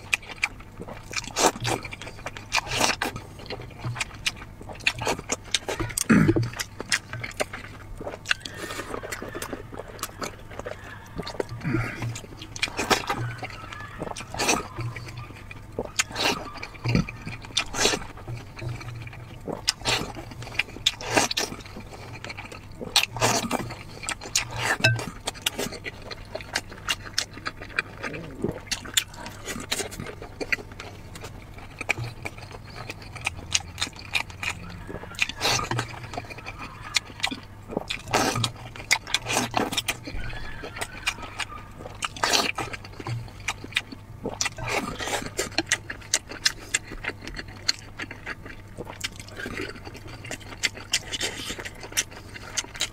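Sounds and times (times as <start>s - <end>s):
person chewing and smacking: 0.0s - 52.9s.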